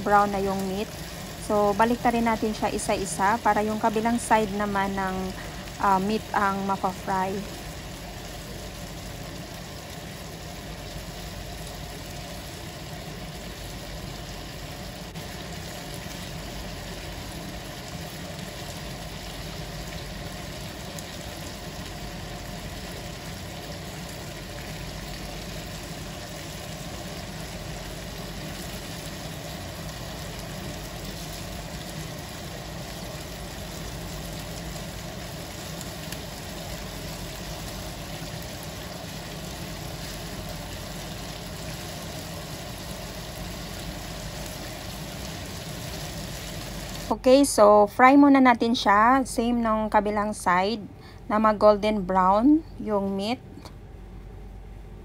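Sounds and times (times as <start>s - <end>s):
meat sizzling in oil: 0.0s - 47.6s
low steady hum: 0.0s - 55.0s.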